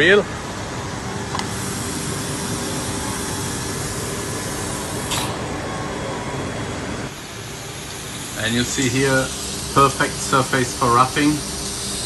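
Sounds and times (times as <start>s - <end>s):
milling machine and coolant hiss: 0.0s - 12.0s.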